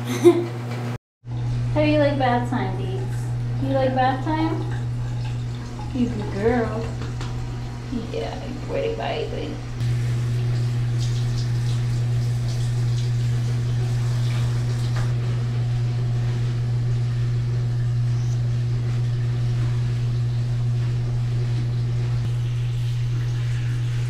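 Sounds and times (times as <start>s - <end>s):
steady low hum: 1.3s - 24.0s.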